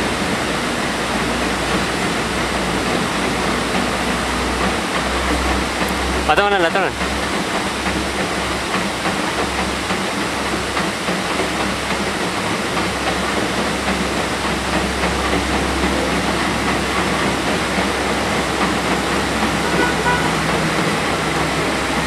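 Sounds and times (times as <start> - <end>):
train engine drone: 0.0 - 22.0
waterfall rushing: 0.0 - 22.0.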